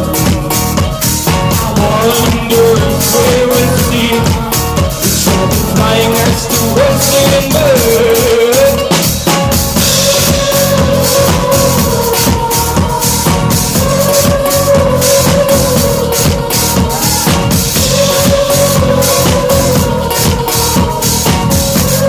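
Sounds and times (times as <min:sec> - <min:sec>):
drum kit beat: 0:00.0 - 0:22.0.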